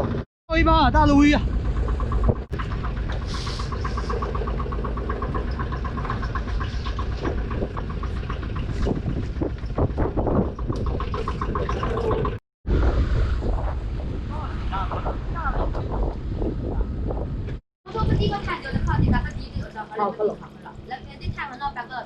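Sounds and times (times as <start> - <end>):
boat engine running: 0.0 - 13.0, 16.0 - 22.0.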